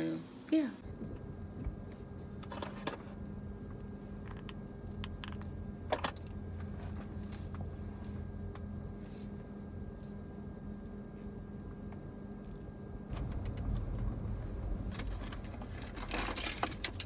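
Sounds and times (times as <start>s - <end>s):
car cabin low hum: 0.8s - 16.5s.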